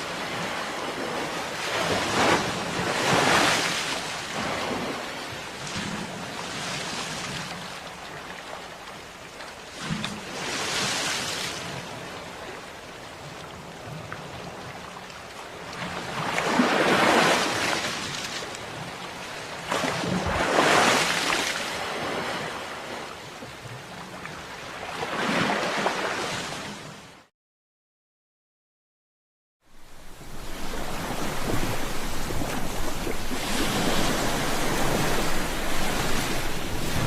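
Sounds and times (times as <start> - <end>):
ocean waves breaking on shore: 0.0 - 27.3, 29.7 - 37.0.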